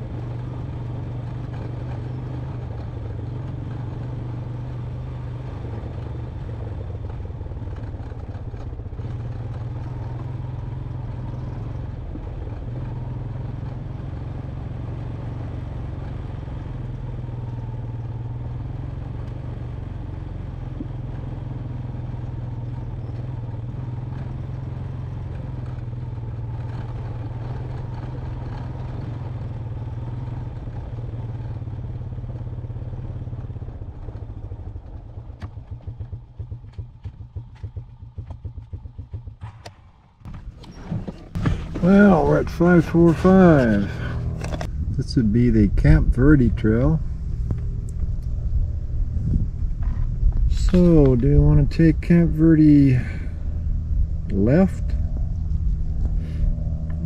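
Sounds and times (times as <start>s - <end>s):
engine clatter: 0.0s - 57.0s
quad bike engine running: 0.0s - 57.0s.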